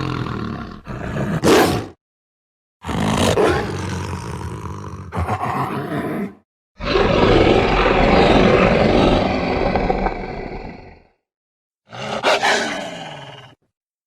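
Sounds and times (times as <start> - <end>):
werewolf roar: 0.0 - 1.5, 2.8 - 11.1, 11.9 - 13.5.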